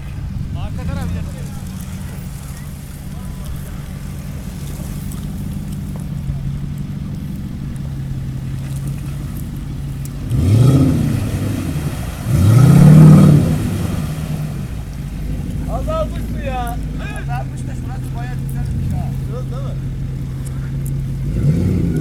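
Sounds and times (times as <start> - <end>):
engine idling and revving: 0.0 - 22.0.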